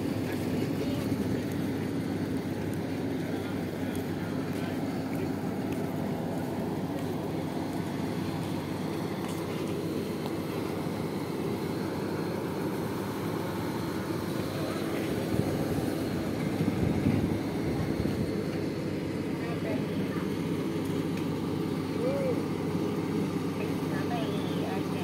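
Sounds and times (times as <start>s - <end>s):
low engine drone: 0.0s - 25.0s
steady hum: 0.0s - 25.0s.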